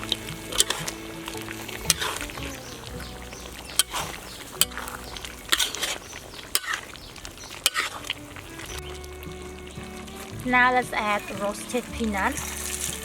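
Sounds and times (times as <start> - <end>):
spatula scraping a pan: 0.0 - 8.9, 11.1 - 13.0
meat sizzling in a pan: 0.0 - 13.0.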